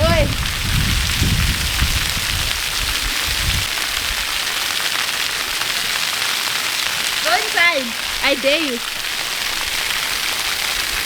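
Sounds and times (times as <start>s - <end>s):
waterfall rushing hiss: 1.7s - 11.0s.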